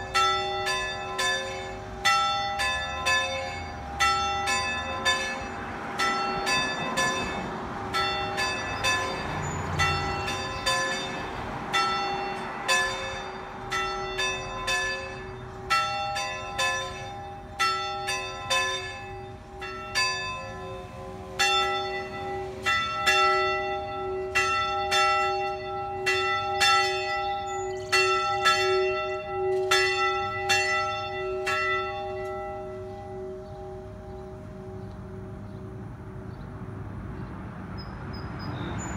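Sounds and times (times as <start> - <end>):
church tower bells ringing: 0.0 - 38.9.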